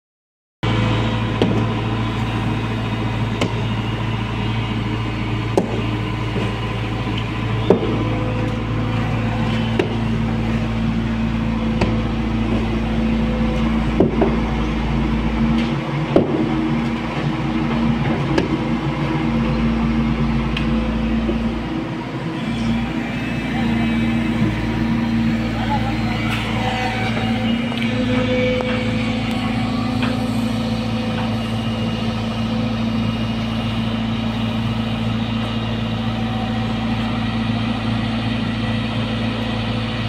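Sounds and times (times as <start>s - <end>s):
excavator diesel engine running: 0.6s - 40.0s.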